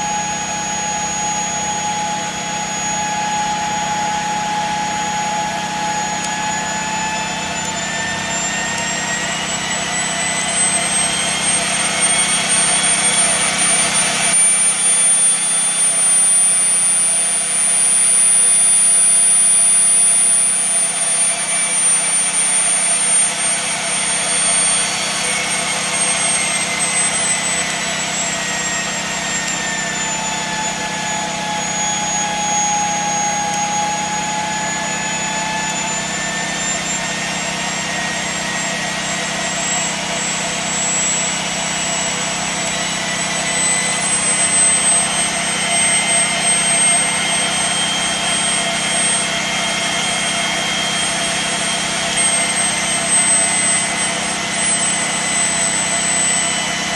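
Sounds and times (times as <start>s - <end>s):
turbine high-pitched whine: 0.0s - 56.9s.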